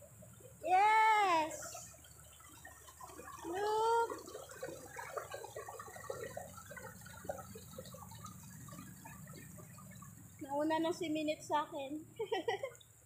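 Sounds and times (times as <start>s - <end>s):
stream gurgling over stones: 0.0s - 13.0s.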